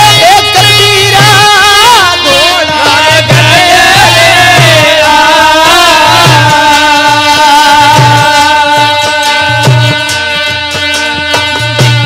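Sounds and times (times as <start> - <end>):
harmonium: 0.0 - 12.0
man singing: 0.0 - 12.0.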